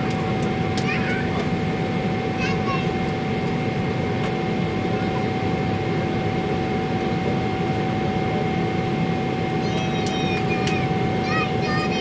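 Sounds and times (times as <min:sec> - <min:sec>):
high engine whine: 0:00.0 - 0:12.0
jet engine cabin rush: 0:00.0 - 0:12.0.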